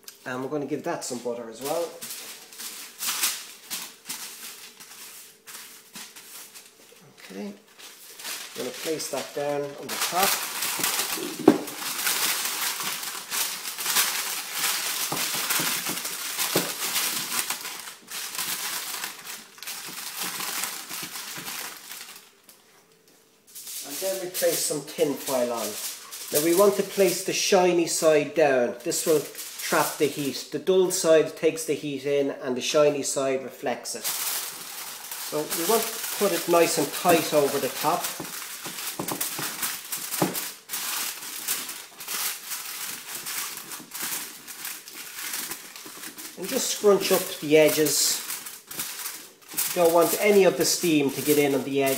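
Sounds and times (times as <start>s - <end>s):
paper crinkling and crumpling: 1.3s - 22.8s, 23.5s - 28.2s, 28.8s - 30.4s, 34.0s - 51.9s.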